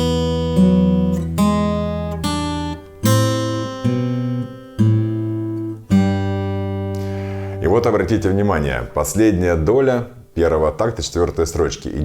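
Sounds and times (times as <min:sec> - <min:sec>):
fingerpicked acoustic guitar: 0:00.0 - 0:10.4.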